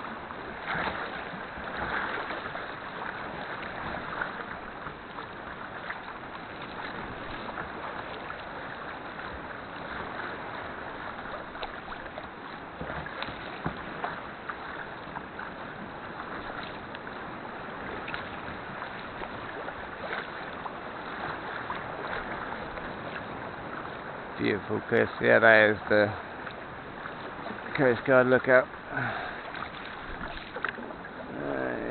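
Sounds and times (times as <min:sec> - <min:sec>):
water splashing around a kayak: 0:00.0 - 0:31.9.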